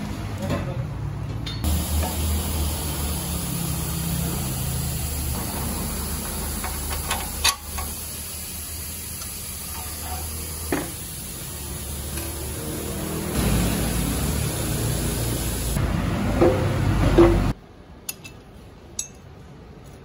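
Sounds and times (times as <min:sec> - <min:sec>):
workshop noise hiss: 0:00.0 - 0:17.6.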